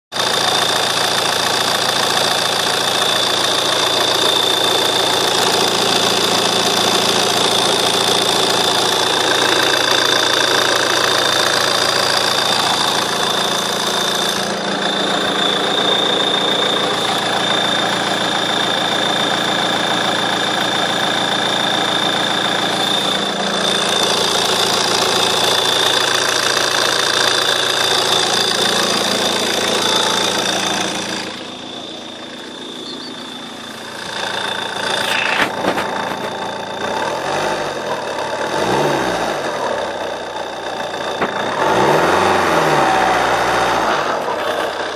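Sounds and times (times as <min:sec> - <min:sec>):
diesel engine idling: 0:00.1 - 0:44.9
high-pitched chirping whine: 0:02.4 - 0:44.9.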